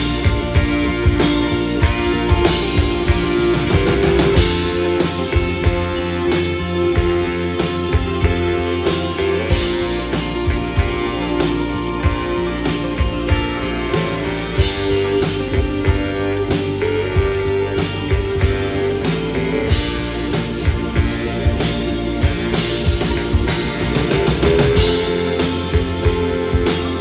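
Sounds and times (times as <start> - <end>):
bass guitar: 0.0 - 27.0
drum kit beat: 0.0 - 27.0
electric guitars: 0.0 - 27.0.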